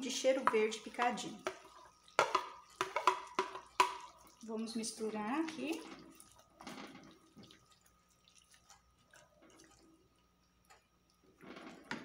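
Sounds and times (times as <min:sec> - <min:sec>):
wooden spoon stirring thick sauce: 0:00.0 - 0:12.0.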